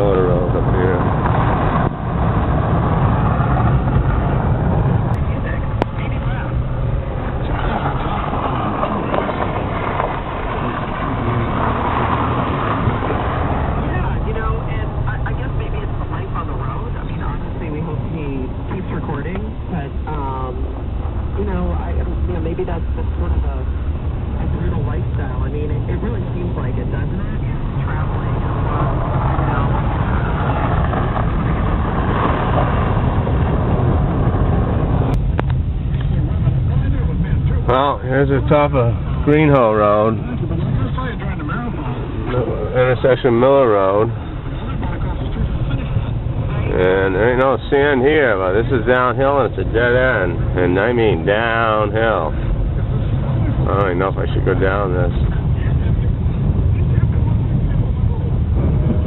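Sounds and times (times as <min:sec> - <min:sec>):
car engine hum: 0:00.0 - 0:59.0.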